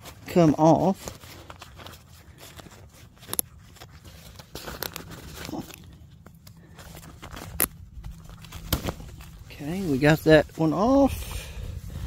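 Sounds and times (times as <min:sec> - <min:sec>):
zipper clicks and rustles: 0:00.0 - 0:10.1.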